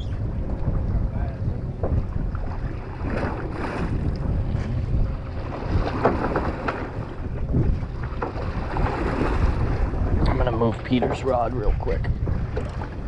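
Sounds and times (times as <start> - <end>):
water washing around a boat: 0.0 - 13.0
wind buffeting the microphone: 0.0 - 13.0.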